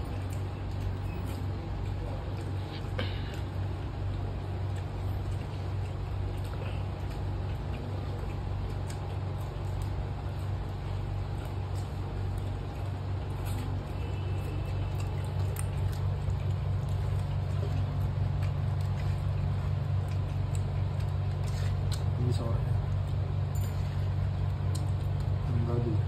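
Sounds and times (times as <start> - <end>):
people eating with their hands: 0.0 - 26.0.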